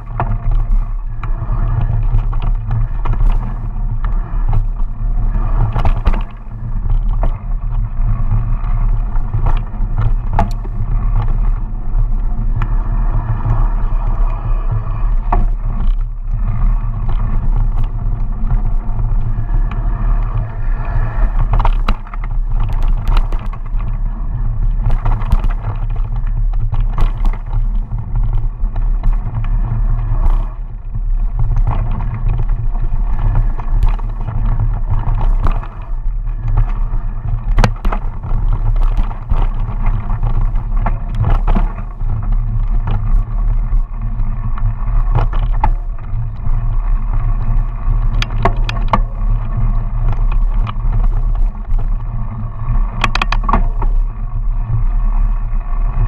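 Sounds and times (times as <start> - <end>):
bike clacking and rattling: 0.0 - 56.0
wind and tyre rumble: 0.0 - 56.0.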